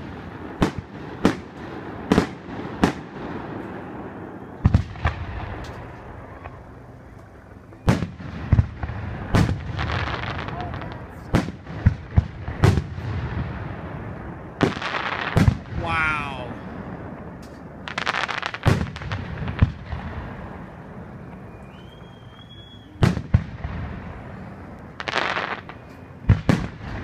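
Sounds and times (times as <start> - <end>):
fireworks bangs: 0.0 - 6.7, 7.8 - 27.0
fireworks crackling: 0.0 - 27.0.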